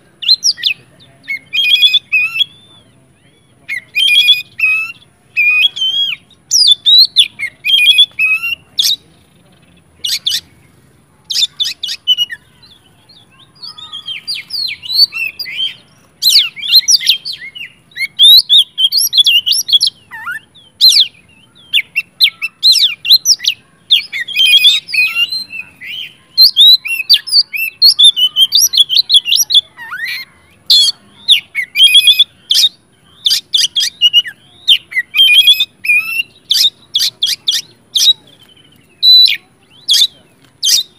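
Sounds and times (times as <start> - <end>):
bird singing loudly: 0.0 - 40.9.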